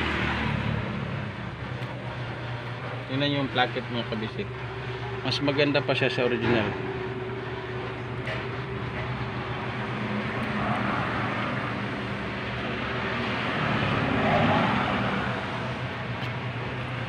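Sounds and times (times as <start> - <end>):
passing traffic engine hum: 0.0 - 17.0.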